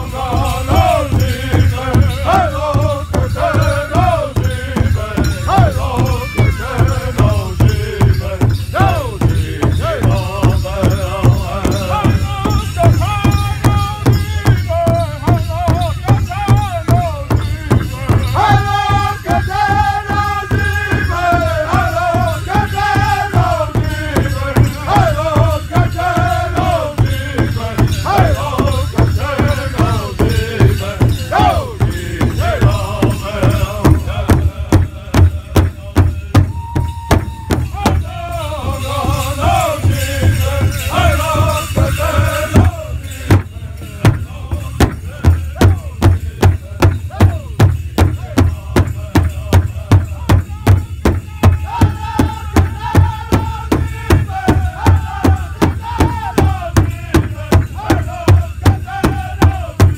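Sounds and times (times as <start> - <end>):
large drum struck in unison: 0.0 - 59.9
men singing together: 0.0 - 59.9.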